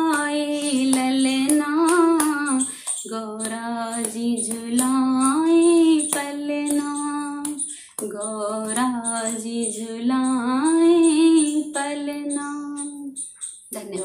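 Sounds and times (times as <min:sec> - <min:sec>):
woman singing unaccompanied: 0:00.0 - 0:14.0.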